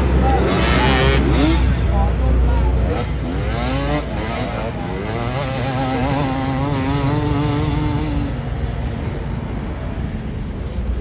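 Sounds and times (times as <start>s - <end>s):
dirt bike engines racing: 0.0s - 11.0s.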